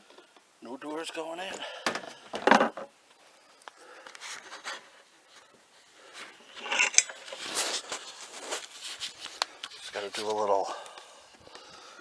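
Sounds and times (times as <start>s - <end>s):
faint clicks and rustling: 1.5s - 12.0s.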